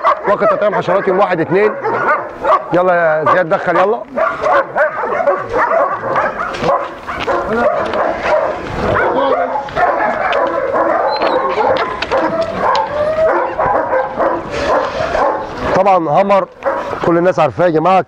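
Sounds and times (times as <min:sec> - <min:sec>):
dogs barking and yelping: 0:00.0 - 0:17.3.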